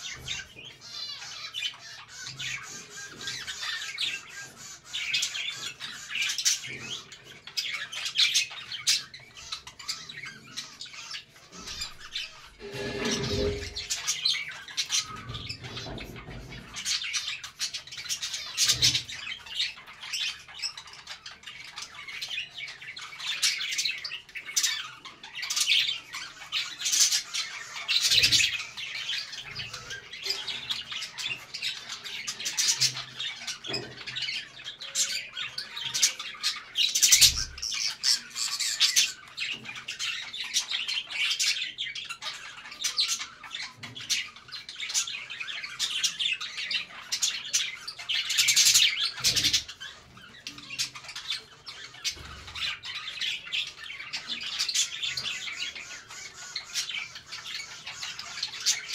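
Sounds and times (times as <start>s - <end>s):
budgerigars chattering and chirping: 0.0s - 58.9s.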